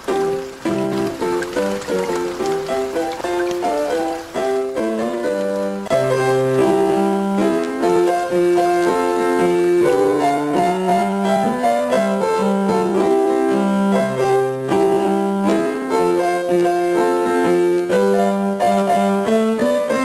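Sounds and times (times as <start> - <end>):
piano-like keyboard music: 0.0 - 20.0.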